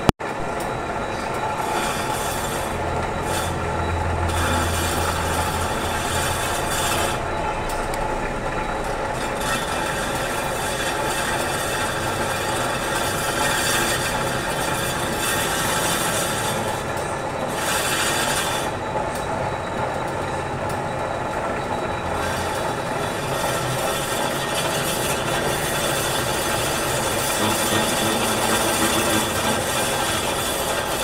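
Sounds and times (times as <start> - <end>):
metal lathe running: 0.0 - 31.0.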